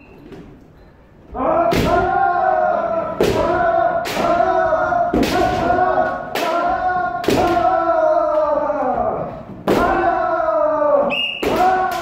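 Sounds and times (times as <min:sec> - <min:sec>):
people giving kiai shouts: 0:01.3 - 0:12.0.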